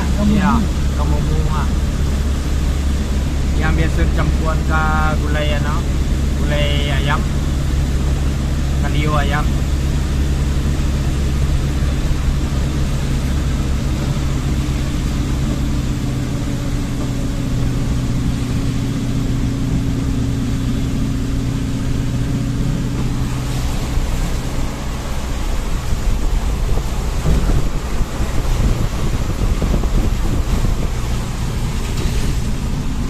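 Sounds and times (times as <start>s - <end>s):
road noise: 0.0s - 33.0s
vehicle engine droning: 0.0s - 33.0s.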